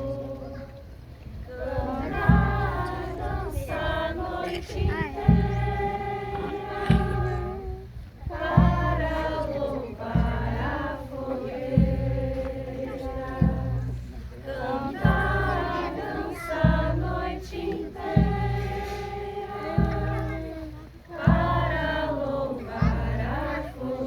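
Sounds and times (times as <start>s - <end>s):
low thumps: 0.0s - 23.8s
group singing in unison: 0.0s - 24.0s.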